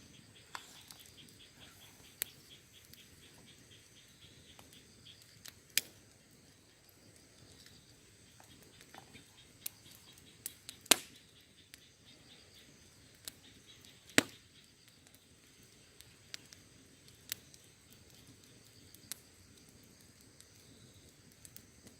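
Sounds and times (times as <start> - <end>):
campfire crackling: 0.0 - 21.9.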